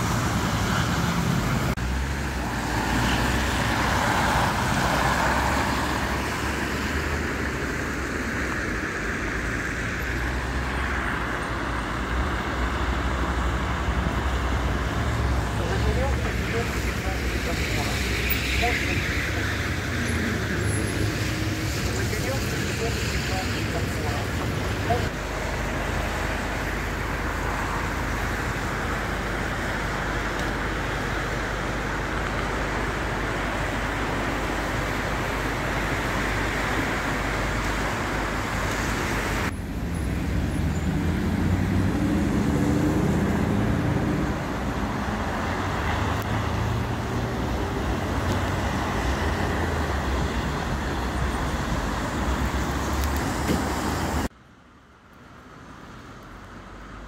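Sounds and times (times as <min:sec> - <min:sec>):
vehicle passing with engine rumble: 0:00.0 - 0:54.3
road traffic hiss: 0:00.0 - 0:57.0.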